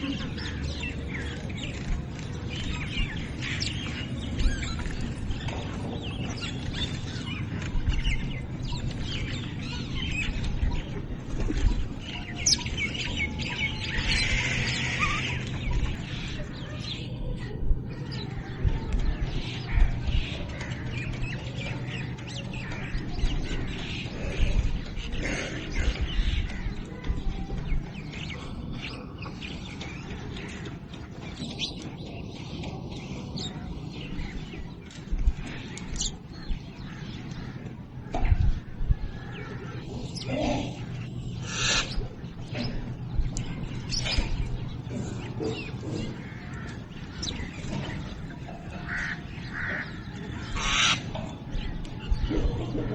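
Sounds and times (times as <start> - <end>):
small birds chirping: 0.0 - 52.9
steady low rumble: 0.0 - 52.9.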